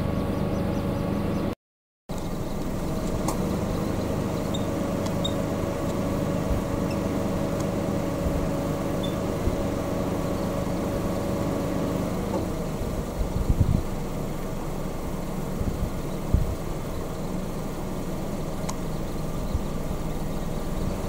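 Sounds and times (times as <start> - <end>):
car engine idling: 2.1 - 21.0.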